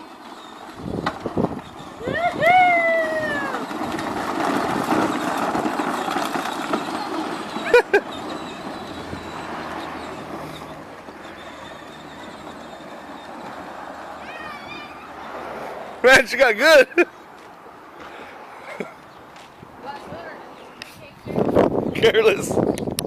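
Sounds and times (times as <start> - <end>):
toy car wheels on dirt: 0.0 - 23.0.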